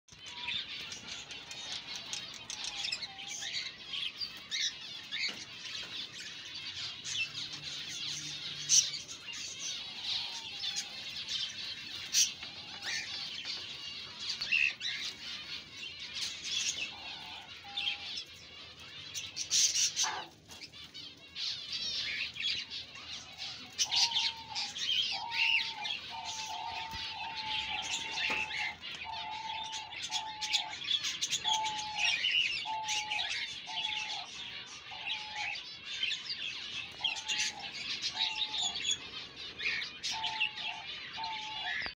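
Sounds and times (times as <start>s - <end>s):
birds chirping and chattering: 0.1s - 41.9s.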